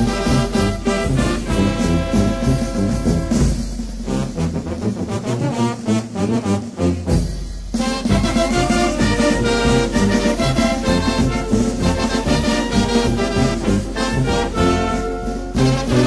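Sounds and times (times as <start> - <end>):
brass band music: 0.0 - 16.0.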